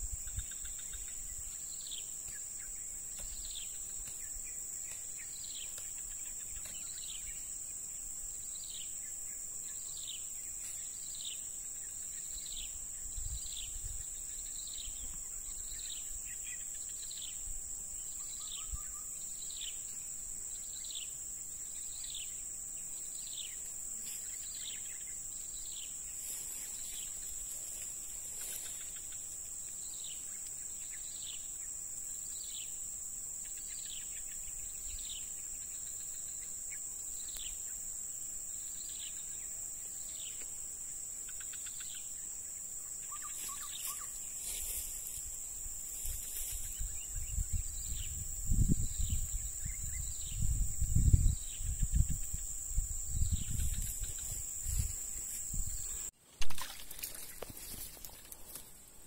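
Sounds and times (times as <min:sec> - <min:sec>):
high-pitched insect drone: 0:00.0 - 0:58.8.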